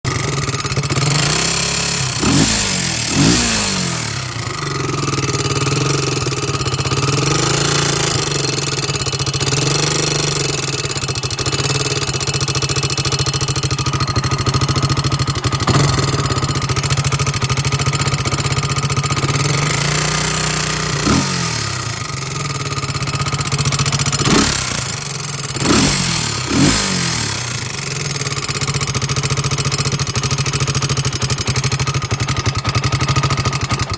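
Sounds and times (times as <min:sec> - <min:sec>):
quad engine idling and revving: 0:00.0 - 0:33.9.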